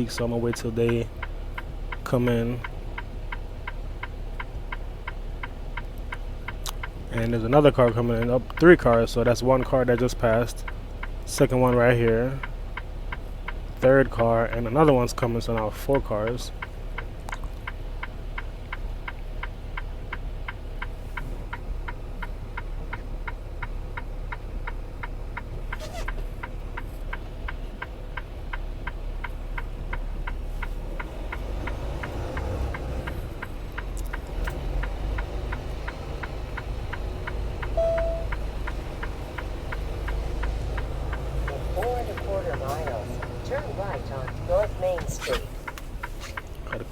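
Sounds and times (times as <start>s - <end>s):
diesel engine rumbling: 0.0s - 46.9s
turn signal clicking: 0.0s - 46.9s.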